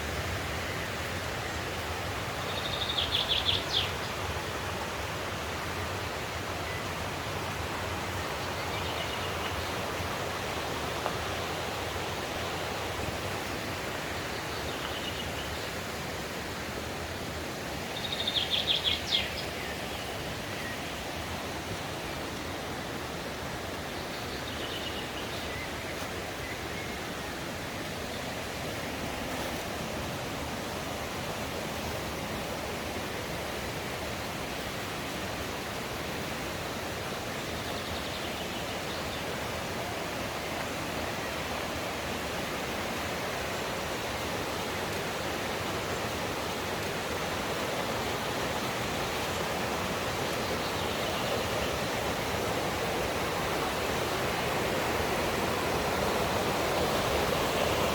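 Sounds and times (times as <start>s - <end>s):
mountain stream rushing: 0.0s - 57.9s.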